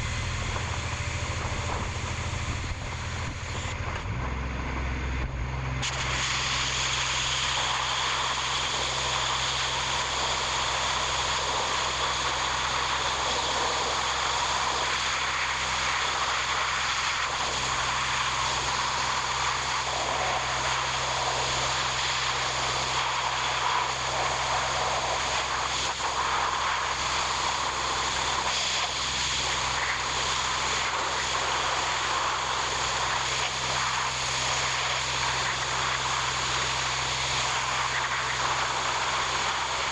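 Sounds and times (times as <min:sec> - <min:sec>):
engine running with hiss: 0:00.0 - 0:39.9.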